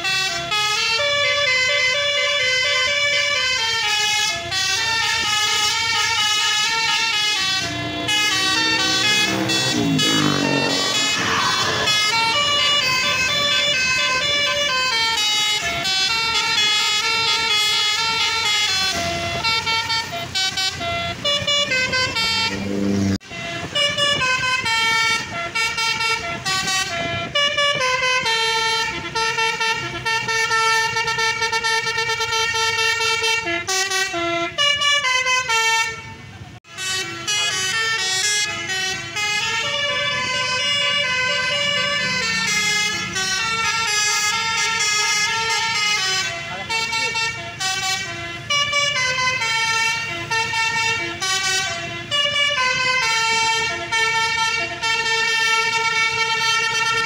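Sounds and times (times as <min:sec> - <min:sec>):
bus multi-tone air horn melody: 0:00.0 - 0:57.0.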